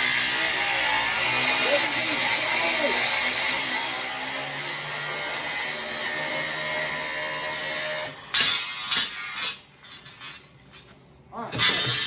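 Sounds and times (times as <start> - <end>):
angle grinder cutting metal: 0.0 - 10.3.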